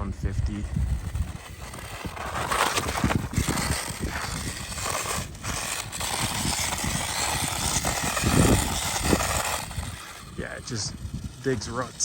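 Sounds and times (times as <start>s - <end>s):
tyres scrabbling in dirt: 0.5s - 12.0s.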